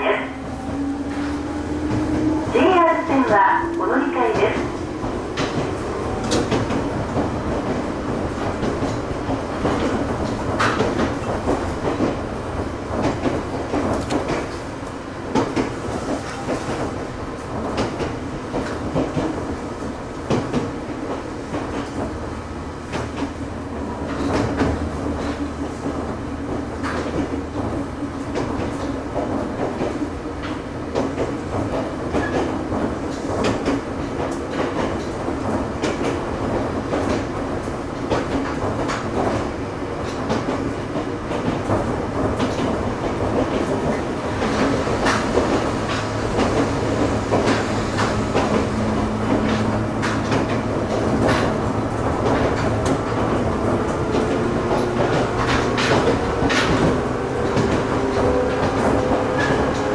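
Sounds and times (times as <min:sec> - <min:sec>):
train rumbling: 0:00.0 - 0:59.9
wheels clacking over rail joints: 0:00.0 - 0:59.9.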